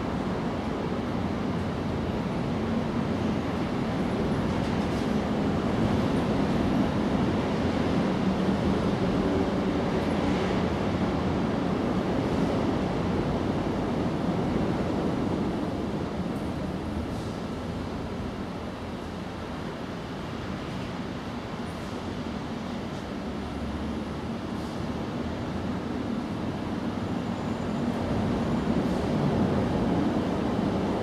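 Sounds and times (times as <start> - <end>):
low rumbling background noise: 0.0 - 31.0.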